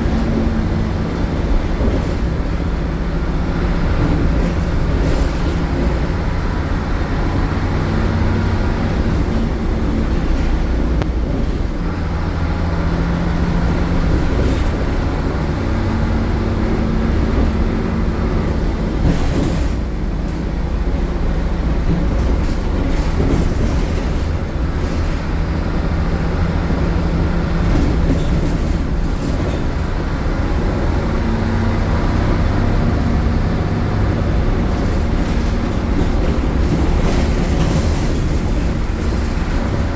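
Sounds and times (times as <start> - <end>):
bus body rattles: 0.0 - 39.9
bus diesel engine accelerating: 0.0 - 39.9.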